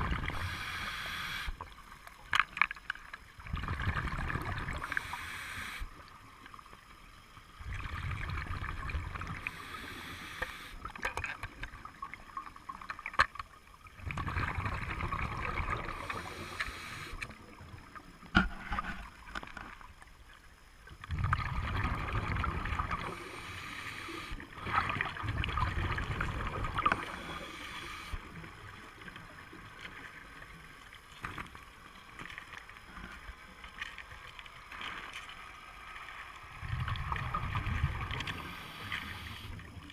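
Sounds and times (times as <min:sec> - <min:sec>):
underwater exhaust bubbles: 0:00.0 - 0:39.9.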